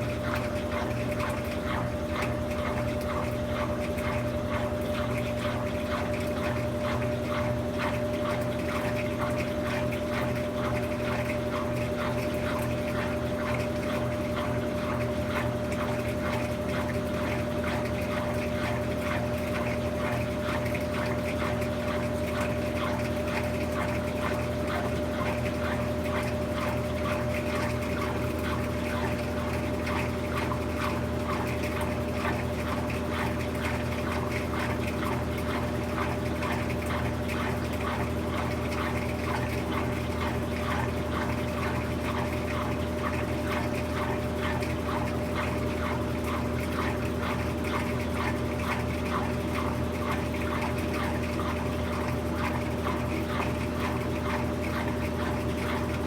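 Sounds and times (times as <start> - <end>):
washing machine pump motor hum: 0.0 - 56.0.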